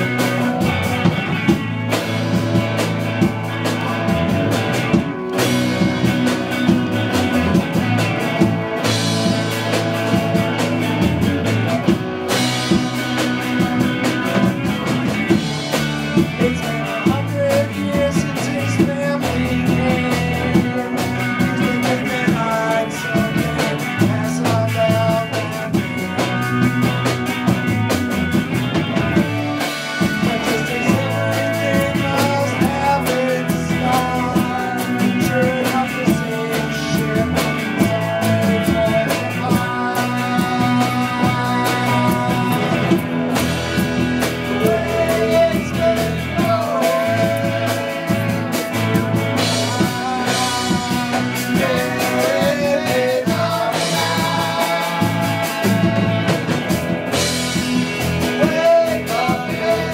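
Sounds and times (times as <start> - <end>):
drum kit steady beat: 0.0 - 59.9
electric guitars: 0.0 - 59.9.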